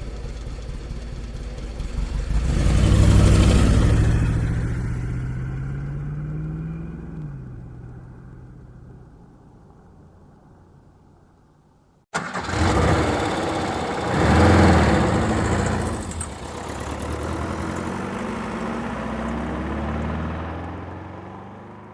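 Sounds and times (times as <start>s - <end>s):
car engine starting and idling: 0.0s - 11.2s, 12.1s - 21.8s
faint engine sound: 0.0s - 21.9s.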